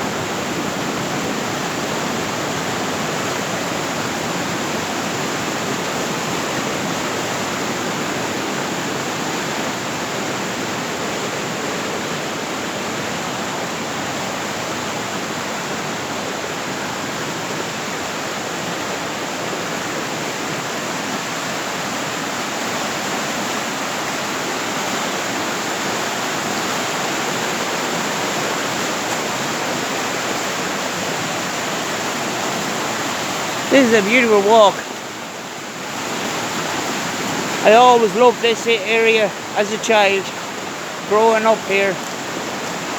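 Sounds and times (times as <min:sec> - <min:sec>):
fast-flowing river rushing: 0:00.0 - 0:42.9.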